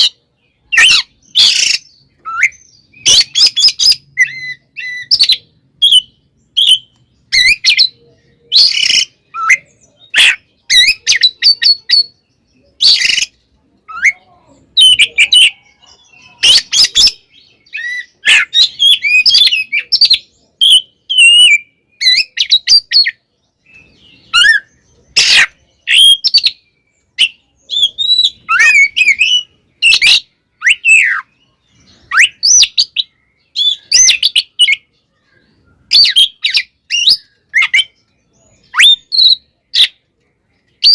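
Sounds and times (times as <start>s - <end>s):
harsh rasping bird calls: 0.0s - 40.9s
magpie-robin whistled song: 0.0s - 40.9s.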